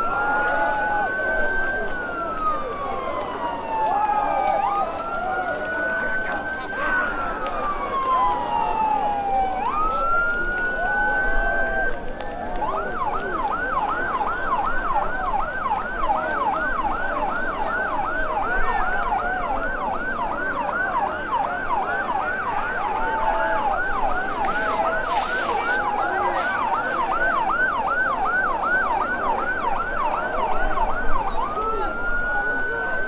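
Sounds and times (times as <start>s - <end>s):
fire engine siren yelping: 0.0s - 33.0s.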